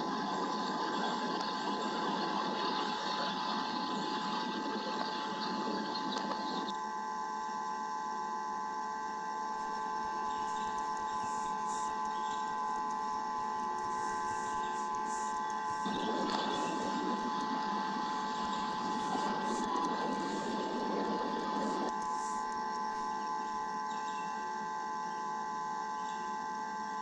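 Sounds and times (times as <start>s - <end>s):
electronic whine of high tones: 0.0s - 27.0s.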